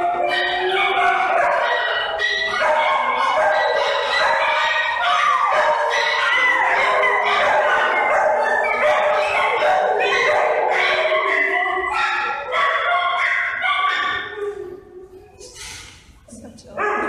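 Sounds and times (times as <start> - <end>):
dogs howling: 0.0 - 15.5.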